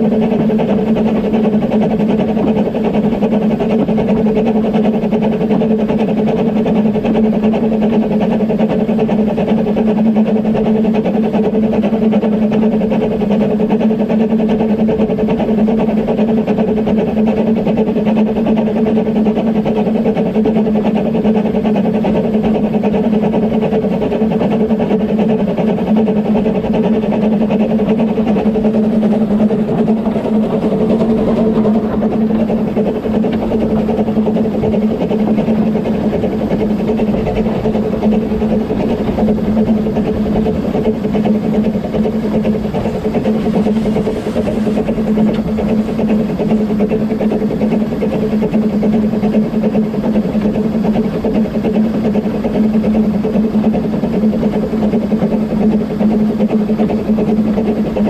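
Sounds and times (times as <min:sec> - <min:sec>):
steam train rumbling: 0:00.0 - 0:58.0.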